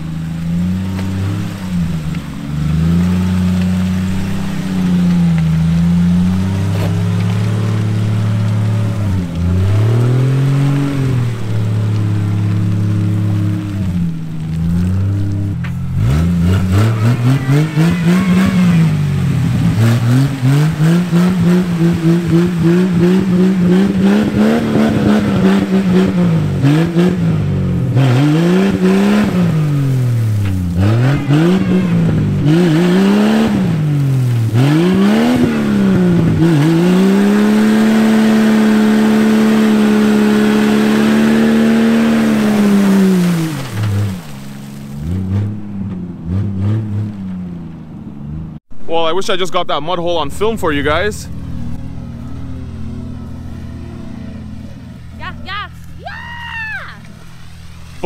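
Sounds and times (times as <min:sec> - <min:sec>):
engine revving: 0:00.0 - 0:48.8, 0:49.9 - 0:56.0.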